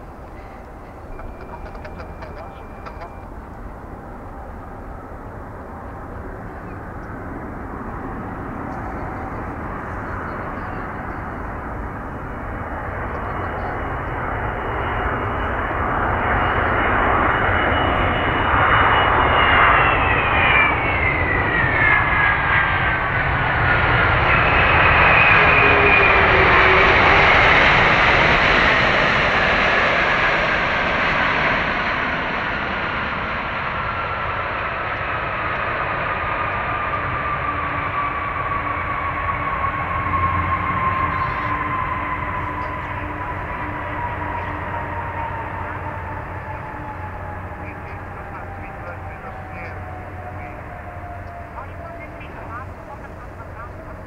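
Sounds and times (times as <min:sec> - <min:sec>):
high engine whine: 0:00.0 - 0:54.0
jet airliner landing: 0:00.0 - 0:54.0.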